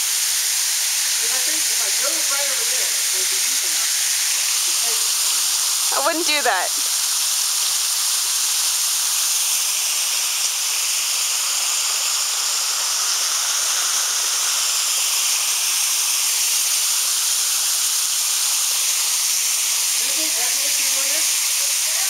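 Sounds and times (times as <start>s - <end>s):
waterfall rushing: 0.8s - 8.3s, 8.9s - 22.0s.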